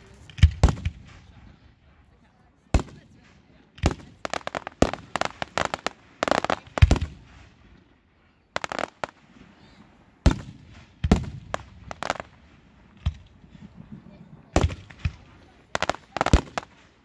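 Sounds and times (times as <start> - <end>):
fireworks bangs: 0.0 - 1.8, 2.6 - 17.0
crackling pops of fireworks: 0.0 - 1.9, 2.7 - 17.0.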